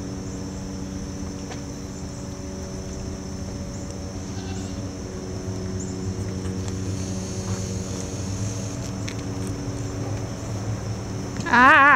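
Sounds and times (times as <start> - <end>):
low mechanical hum: 0.0 - 11.9.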